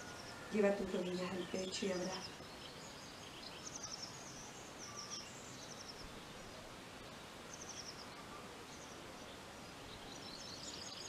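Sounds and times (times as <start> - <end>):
low background hiss: 0.0 - 11.0
small birds chirping: 0.0 - 11.0.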